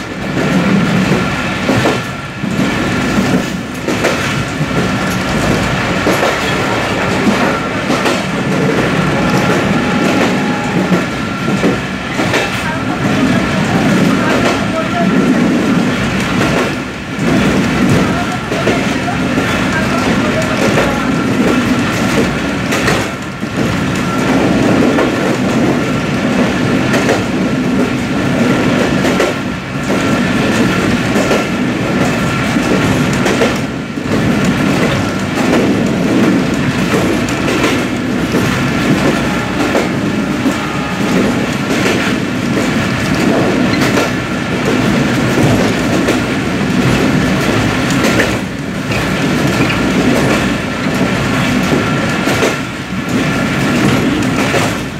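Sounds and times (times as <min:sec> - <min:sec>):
train wheels rumbling on track: 0:00.0 - 0:54.9.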